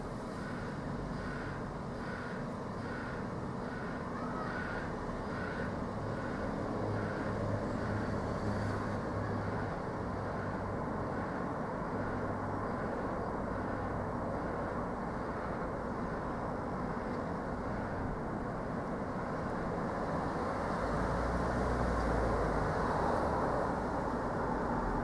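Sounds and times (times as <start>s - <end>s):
van engine running: 0.0s - 20.8s.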